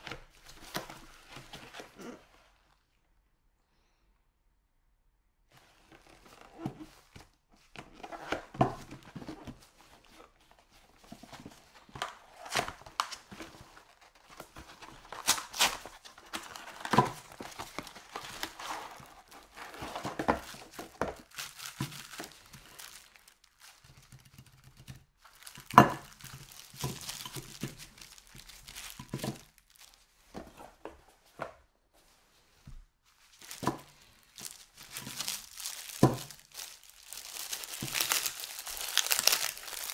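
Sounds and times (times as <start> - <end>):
cardboard and plastic rustling: 0.0 - 2.9, 5.5 - 39.9.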